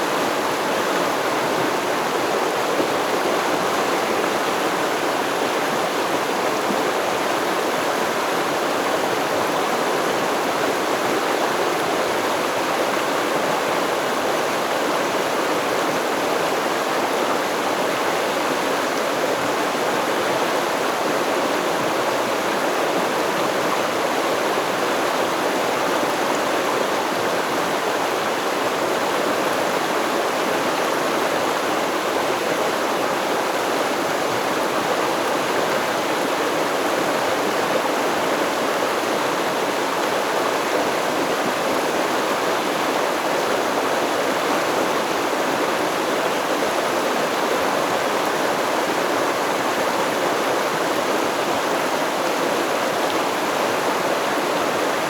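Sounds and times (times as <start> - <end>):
river stream flowing: 0.0 - 55.0.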